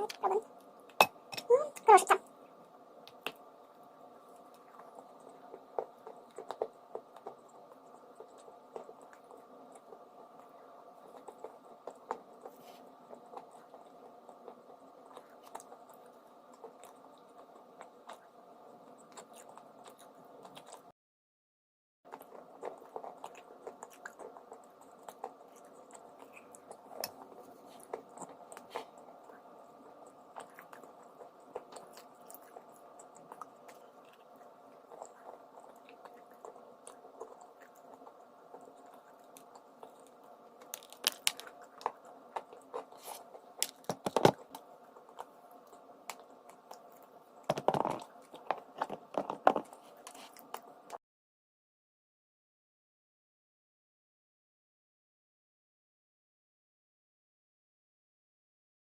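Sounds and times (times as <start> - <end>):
chewing and crunching: 0.0 - 20.9, 22.1 - 51.0.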